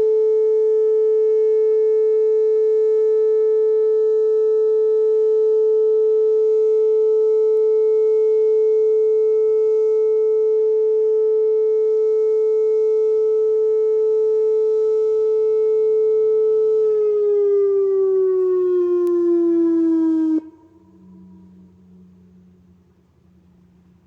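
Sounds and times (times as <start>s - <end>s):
warning siren steady tone: 0.0s - 24.0s.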